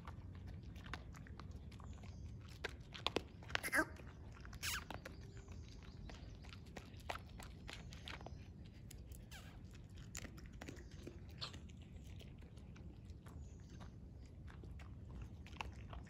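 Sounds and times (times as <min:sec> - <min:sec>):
dog crunching kibble: 0:00.0 - 0:16.0.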